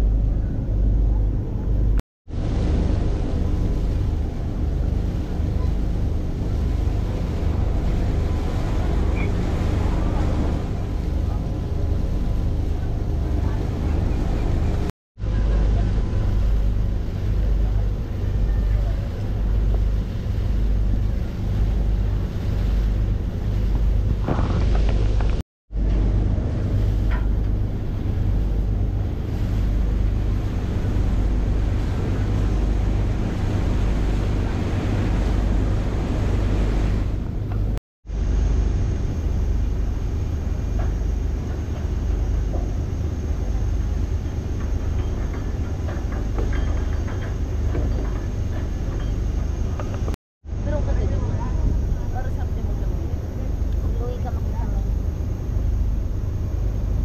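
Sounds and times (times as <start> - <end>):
ferry engine low rumble: 0.0 - 57.0
water rushing along hull: 0.0 - 57.0
wind buffeting microphone: 0.0 - 57.0.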